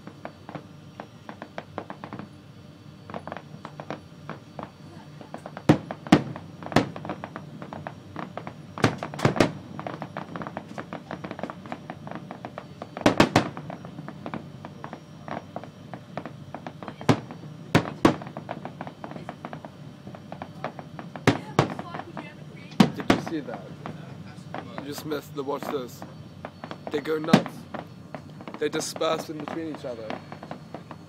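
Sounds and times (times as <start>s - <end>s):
fireworks bangs: 0.0s - 31.0s
fireworks crackling: 0.0s - 31.0s.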